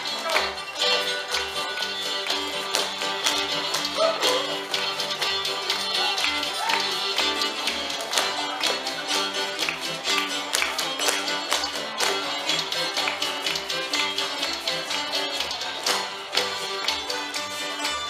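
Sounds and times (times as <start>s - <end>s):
string band playing dance tune: 0.0s - 18.0s.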